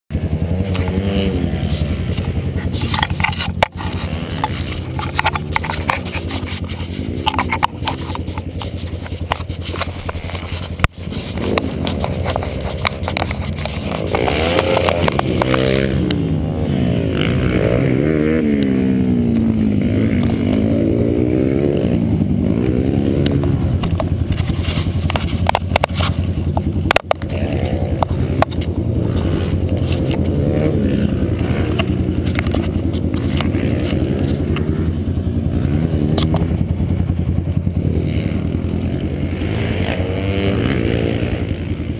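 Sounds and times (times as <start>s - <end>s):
pit bike engine revving: 0.1s - 41.9s.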